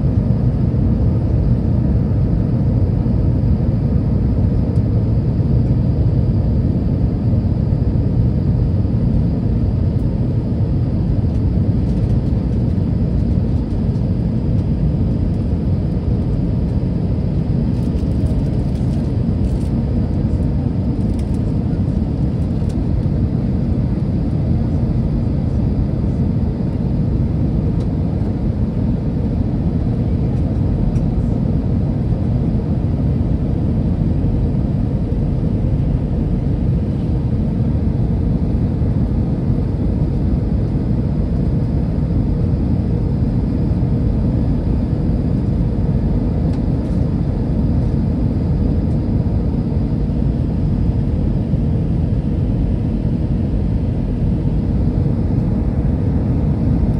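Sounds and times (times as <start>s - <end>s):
jet engine rumble in cabin: 0.0s - 56.9s.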